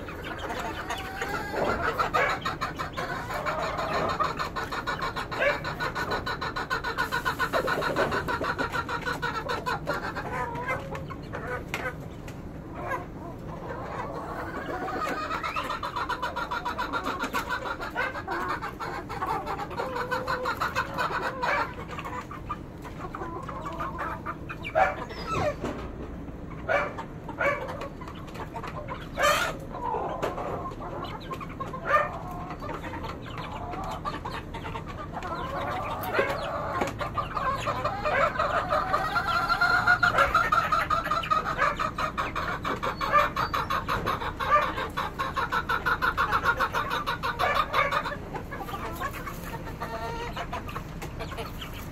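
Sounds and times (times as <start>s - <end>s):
chickens clucking and chirping: 0.0s - 51.9s.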